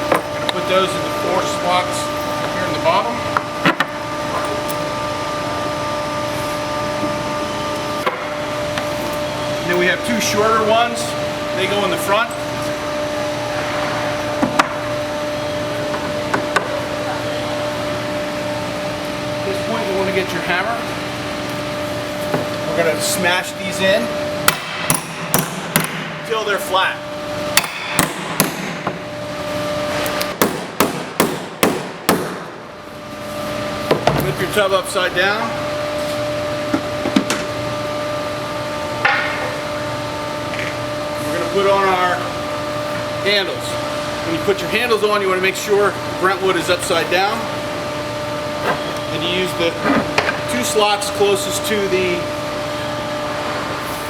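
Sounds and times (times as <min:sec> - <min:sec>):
machinery hum: 0:00.0 - 0:54.0.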